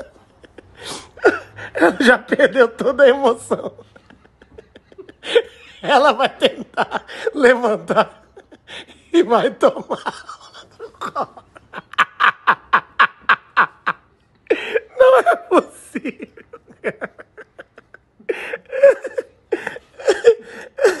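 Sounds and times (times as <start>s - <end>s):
person laughing: 0.0s - 2.4s, 3.6s - 21.0s.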